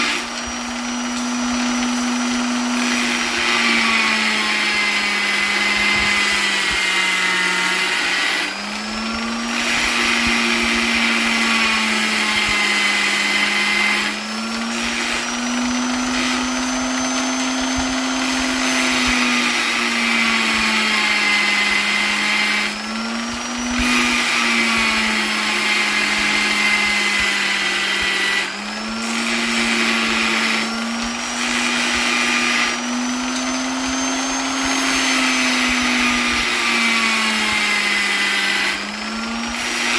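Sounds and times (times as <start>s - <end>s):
electric polisher motor whine: 0.0s - 39.9s.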